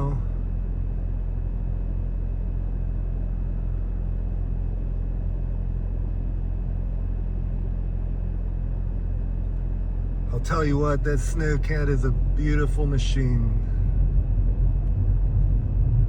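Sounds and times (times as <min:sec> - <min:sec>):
vehicle engine running steadily: 0:00.0 - 0:16.0.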